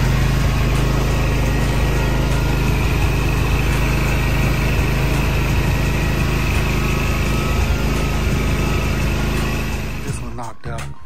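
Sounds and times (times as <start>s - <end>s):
mower engine running: 0.0s - 10.4s.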